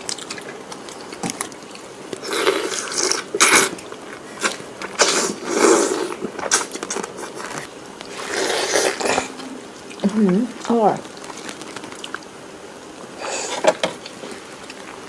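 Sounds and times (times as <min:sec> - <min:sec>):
chewing and lip-smacking: 0:00.0 - 0:12.4.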